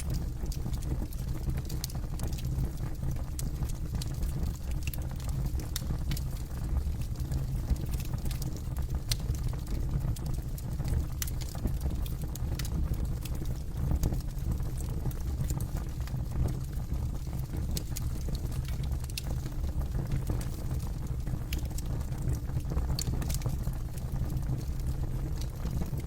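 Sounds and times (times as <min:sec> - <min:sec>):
campfire wood crackling and popping: 0:00.0 - 0:26.0
fire low rumble: 0:00.0 - 0:26.0.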